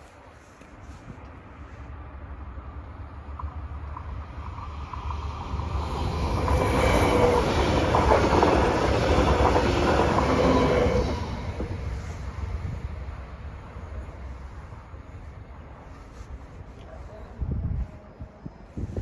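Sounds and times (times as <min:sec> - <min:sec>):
train rail noise: 0:00.0 - 0:19.0.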